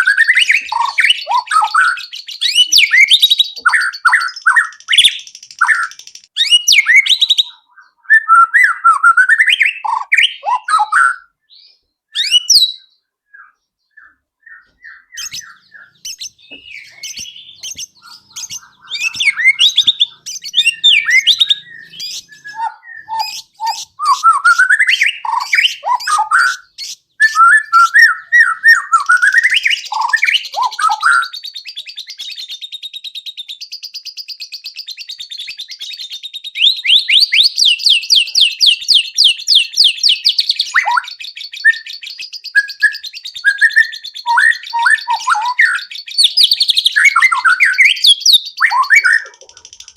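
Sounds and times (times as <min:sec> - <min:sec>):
rapid bird trills: 0:00.0 - 0:08.0, 0:13.4 - 0:49.9
songbird whistling and chirping: 0:00.0 - 0:49.9.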